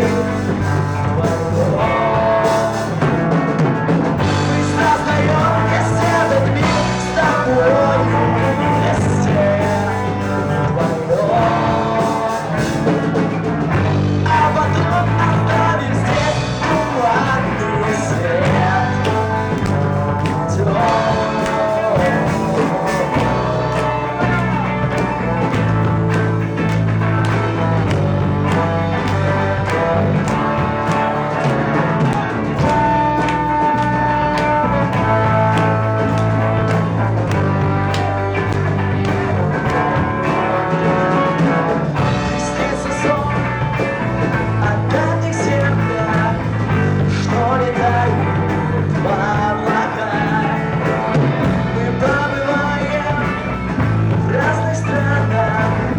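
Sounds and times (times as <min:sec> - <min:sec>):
pitch-bending lead melody: 0:00.0 - 0:55.9
rock band playing live: 0:00.0 - 0:55.9
steady bass part: 0:00.0 - 0:55.9.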